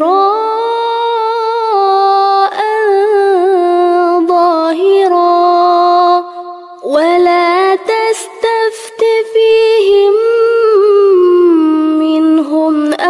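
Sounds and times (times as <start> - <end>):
woman chanting melodically: 0.0 - 13.0.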